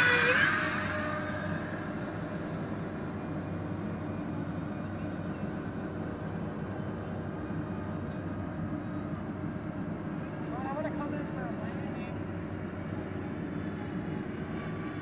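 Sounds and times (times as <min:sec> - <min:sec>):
model jet fans whining: 0:00.0 - 0:15.0
outdoor air noise: 0:00.0 - 0:15.0.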